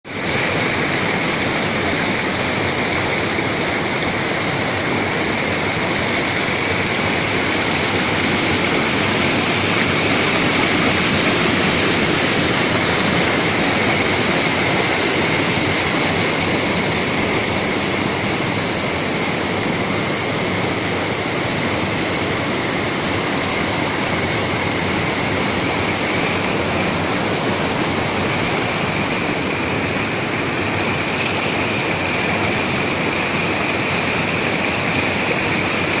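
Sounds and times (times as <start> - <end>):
waterfall rushing over rocks: 0.1 - 36.0.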